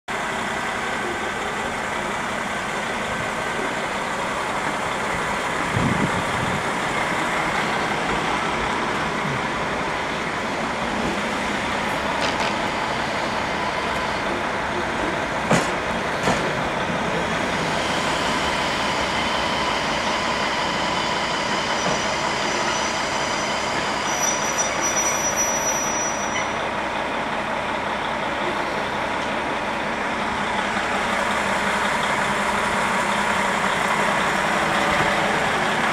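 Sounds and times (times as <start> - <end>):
diesel railcar engine running: 0.1 - 35.9.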